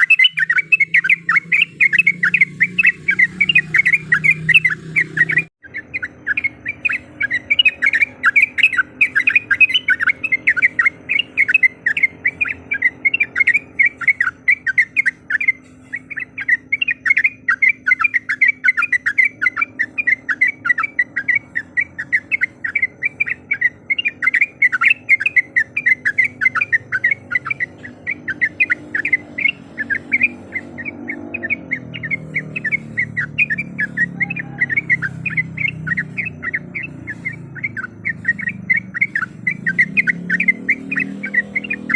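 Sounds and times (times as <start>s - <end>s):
bird rolling chatter call: 0.0s - 41.9s.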